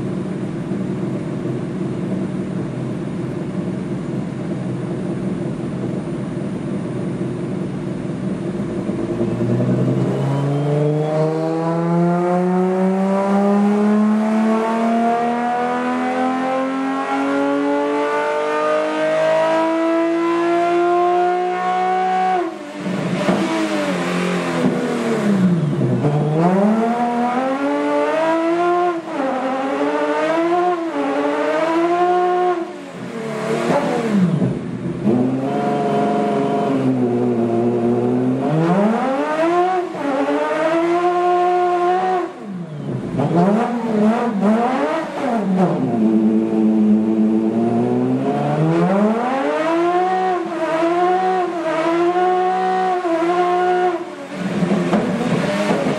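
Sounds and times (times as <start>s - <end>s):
race engine revving: 8.7s - 55.9s.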